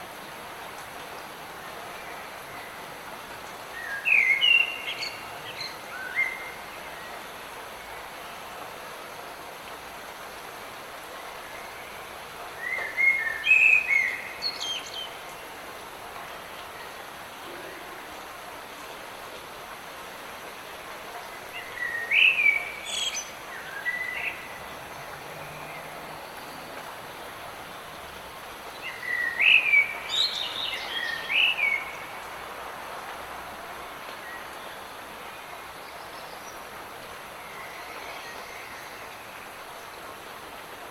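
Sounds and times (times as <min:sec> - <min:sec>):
rain patter: 0:00.0 - 0:40.9.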